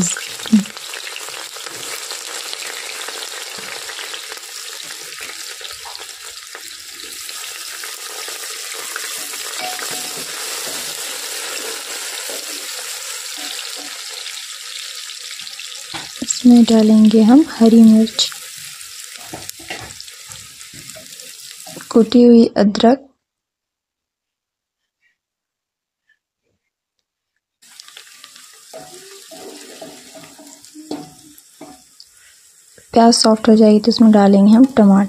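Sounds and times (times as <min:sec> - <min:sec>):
onions sizzling in oil: 0:00.0 - 0:22.3, 0:27.6 - 0:35.0.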